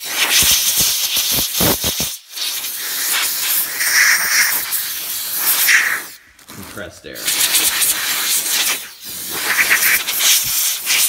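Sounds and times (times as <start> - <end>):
compressed air blow gun hissing: 0.0 - 11.0.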